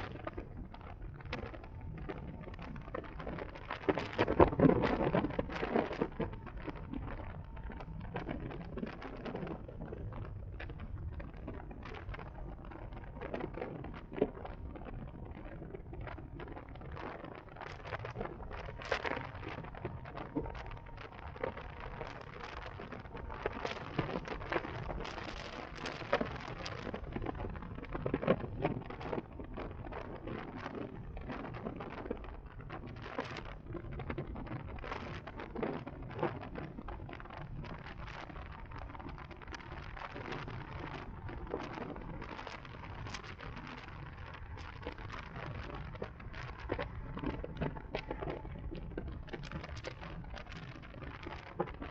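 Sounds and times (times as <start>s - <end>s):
crackles and pops: 0.0s - 51.9s
wind buffeting microphone: 0.0s - 51.9s.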